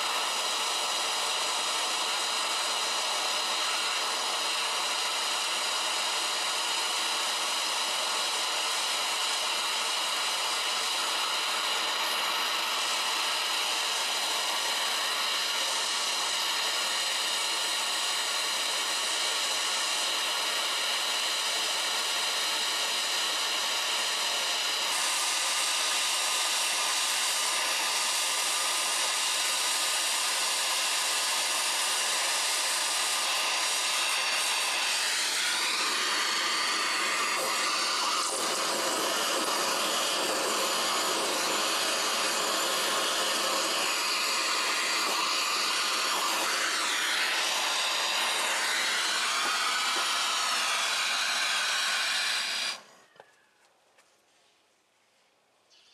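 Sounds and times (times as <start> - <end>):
gas torch hissing: 0.0 - 20.3, 24.5 - 53.0.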